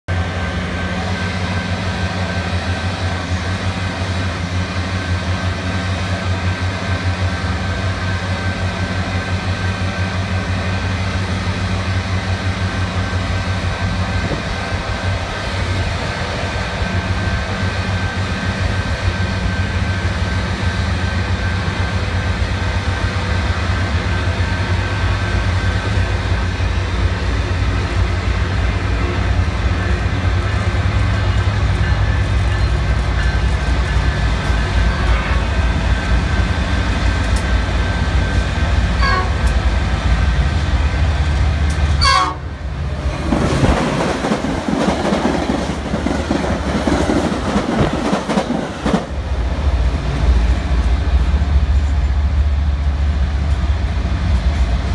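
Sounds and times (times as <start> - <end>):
diesel locomotives rumbling: 0.0 - 54.9.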